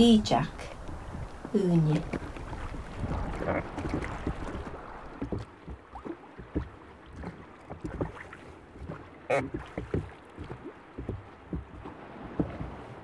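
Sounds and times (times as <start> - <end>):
sea water splashing around a boat: 0.0 - 13.0.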